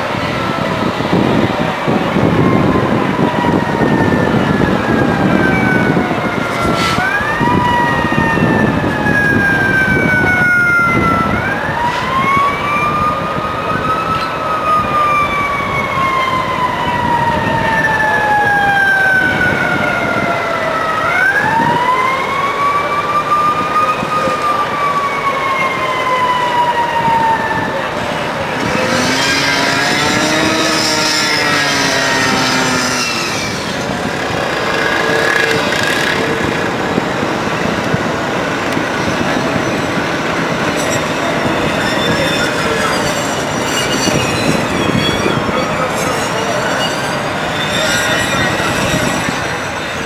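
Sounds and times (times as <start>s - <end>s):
fire engine sirens wailing: 0.0s - 50.0s
low rumble of street noise: 0.0s - 50.0s.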